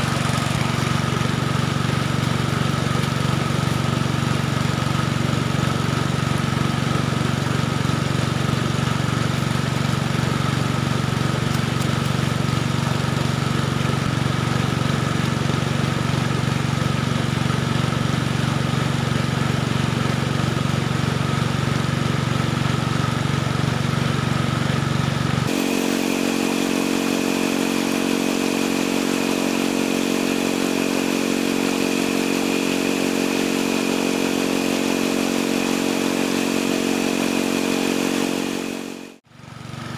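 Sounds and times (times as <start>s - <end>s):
small pump engine running: 0.0s - 39.9s.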